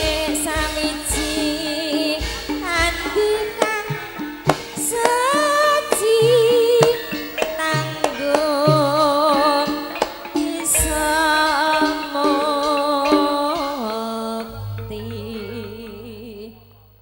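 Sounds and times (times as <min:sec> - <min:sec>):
drum strokes: 0:00.0 - 0:17.0
held metallophone tones: 0:00.0 - 0:17.0
high wavering singing voice: 0:00.0 - 0:17.0.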